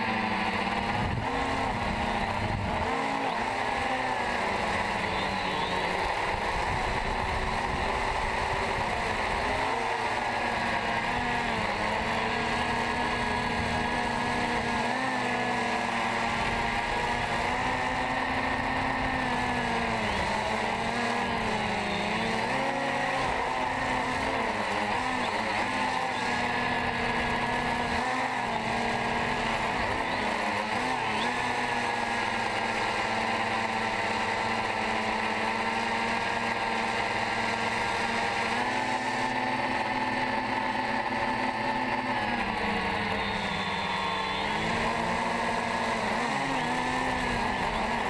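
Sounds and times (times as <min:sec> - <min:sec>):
drone propellers whining: 0:00.0 - 0:48.0.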